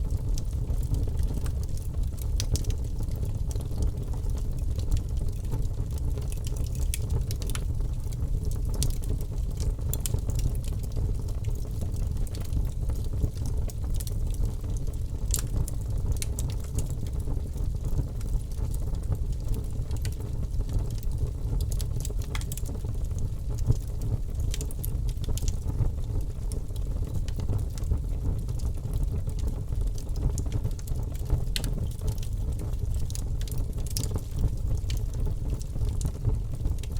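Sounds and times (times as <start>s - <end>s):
fire crackles and pops: 0.0s - 36.9s
wood fire burning: 0.0s - 36.9s.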